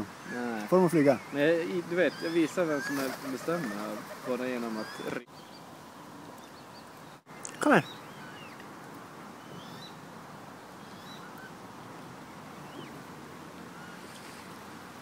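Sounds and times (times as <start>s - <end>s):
bird calls: 0.0s - 14.7s
steady background hiss: 0.0s - 15.0s.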